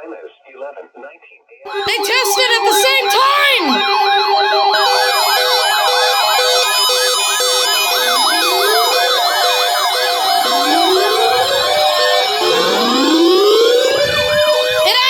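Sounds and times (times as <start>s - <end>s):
high wavering siren warble: 1.7s - 15.0s
on-off beep: 1.7s - 15.0s
siren yelp: 1.7s - 15.0s
slow rising siren whoop: 1.7s - 15.0s.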